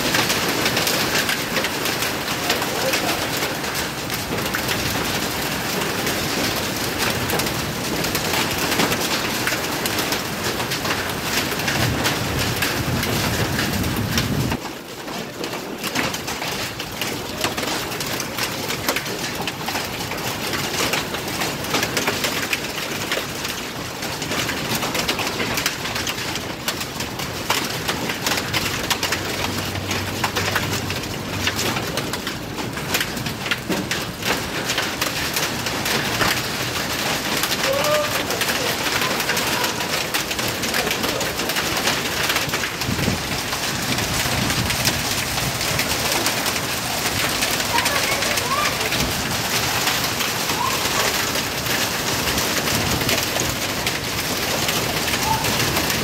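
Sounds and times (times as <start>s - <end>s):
rain and hail pattering on tiles: 0.0s - 56.0s.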